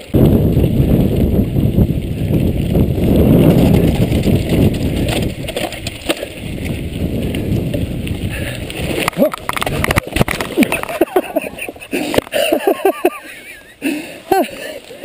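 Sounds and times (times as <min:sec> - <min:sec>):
wind buffeting microphone: 0:00.0 - 0:12.9
bike knocking and rattling: 0:00.0 - 0:13.0
bike tyre noise: 0:00.0 - 0:15.0.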